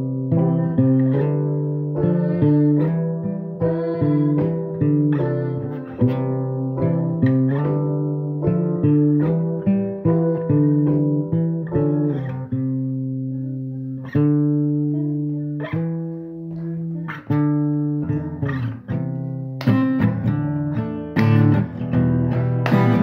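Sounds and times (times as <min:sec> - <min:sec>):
guitar plucked notes and strumming: 0:00.0 - 0:23.0.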